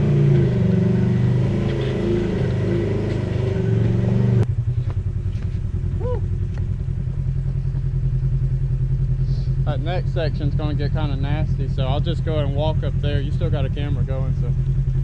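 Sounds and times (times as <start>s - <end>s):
engine idling: 0.0s - 15.0s
off-road vehicle engine revving: 0.0s - 15.0s.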